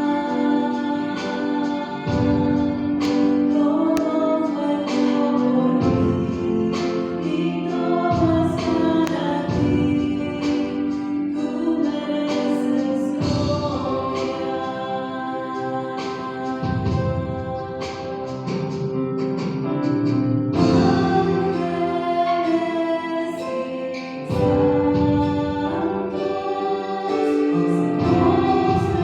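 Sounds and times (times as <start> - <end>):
choir singing a hymn: 0.0 - 19.6, 20.5 - 29.0.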